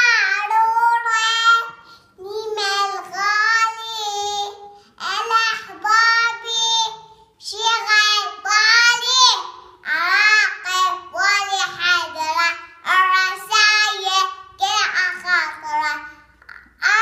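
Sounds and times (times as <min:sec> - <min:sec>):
girl singing unaccompanied: 0:00.0 - 0:17.0.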